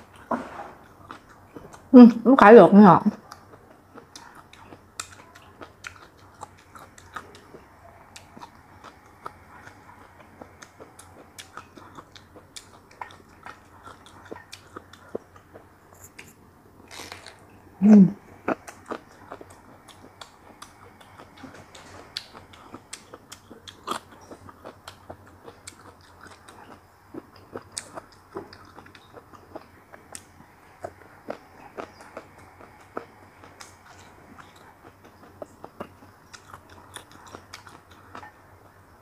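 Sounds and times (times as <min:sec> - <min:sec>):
wet chewing and lip-smacking: 0:03.1 - 0:17.3, 0:18.4 - 0:38.8.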